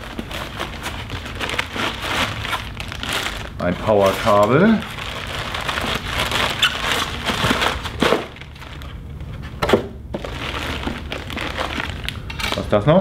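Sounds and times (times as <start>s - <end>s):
plastic packaging crinkling: 0.0s - 9.4s, 10.2s - 13.0s.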